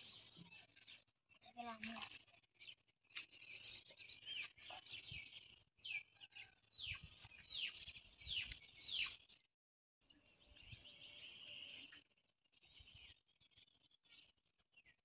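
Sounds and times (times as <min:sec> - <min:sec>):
birds chirping: 0:00.0 - 0:09.5, 0:10.1 - 0:15.0.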